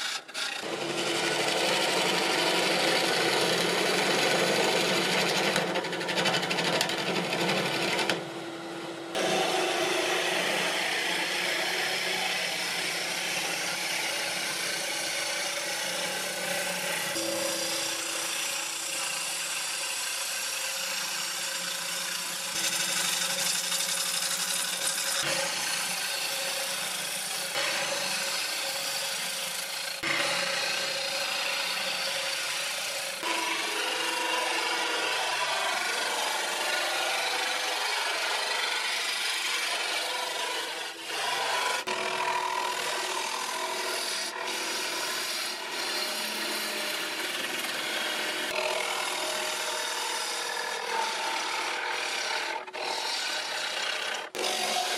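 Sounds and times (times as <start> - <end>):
gouge cutting wood: 0.0 - 54.9
lathe humming: 0.0 - 54.9.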